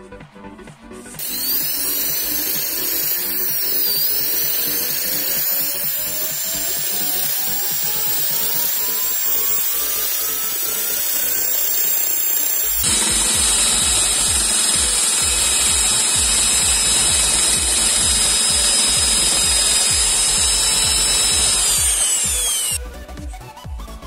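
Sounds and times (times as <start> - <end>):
wire brush drill scratching metal: 1.2 - 22.8.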